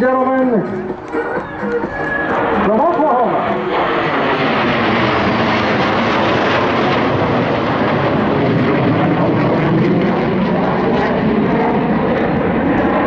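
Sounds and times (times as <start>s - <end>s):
jet engine flying by: 0.0s - 13.0s.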